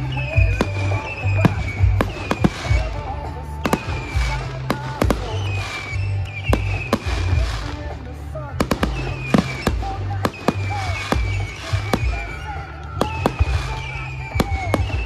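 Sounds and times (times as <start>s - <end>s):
music with deep bass: 0.0s - 15.0s.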